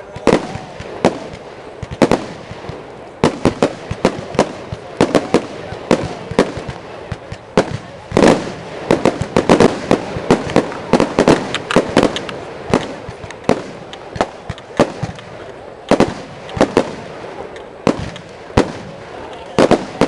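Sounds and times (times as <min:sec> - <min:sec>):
big firework bangs: 0:00.0 - 0:20.0
fireworks bangs and crackles: 0:00.0 - 0:20.0.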